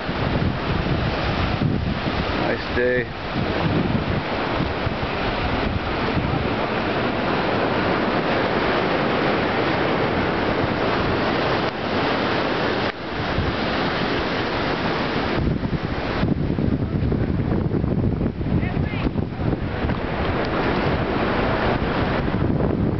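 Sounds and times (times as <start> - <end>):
choppy water: 0.0 - 22.9
ocean surf: 0.0 - 22.9
wind buffeting microphone: 0.0 - 22.9.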